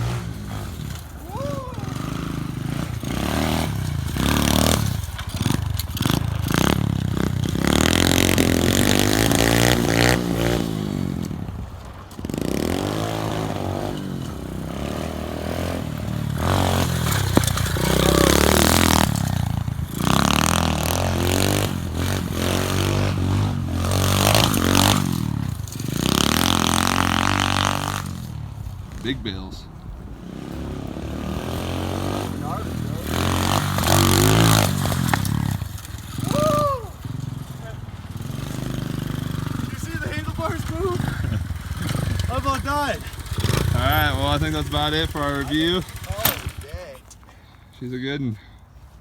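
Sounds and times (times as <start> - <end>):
motorbike clatter: 0.0 - 29.2, 30.2 - 47.2
motorbike engine revving: 0.0 - 47.1.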